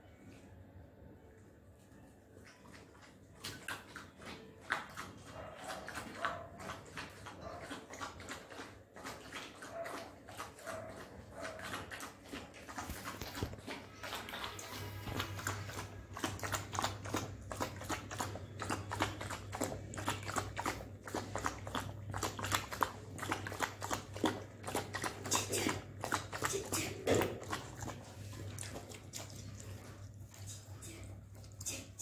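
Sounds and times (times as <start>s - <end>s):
dog lapping from a bowl: 2.2s - 32.0s.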